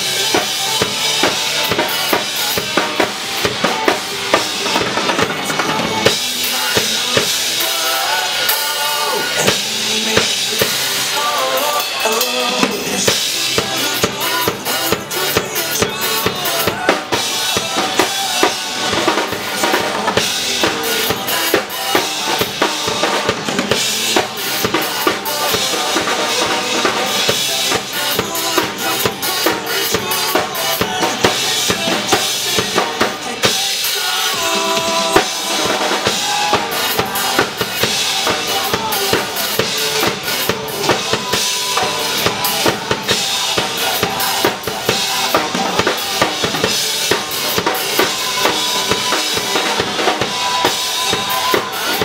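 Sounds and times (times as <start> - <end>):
acoustic drum kit played hard: 0.0 - 52.0
pop-rock backing track: 0.0 - 52.0.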